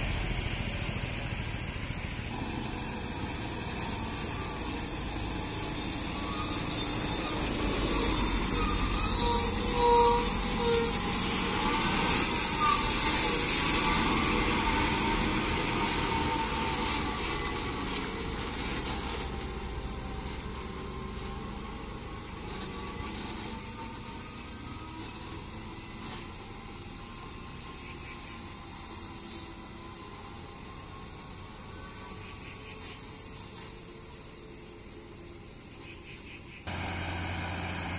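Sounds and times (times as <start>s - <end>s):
lorry brakes squealing: 0.0s - 26.3s, 27.5s - 37.3s
lorry engine and tyre noise: 0.0s - 37.9s.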